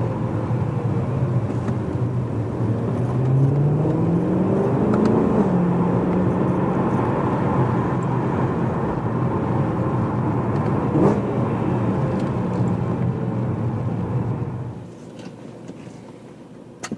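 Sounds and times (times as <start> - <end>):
car engine heard from cabin: 0.0 - 16.9.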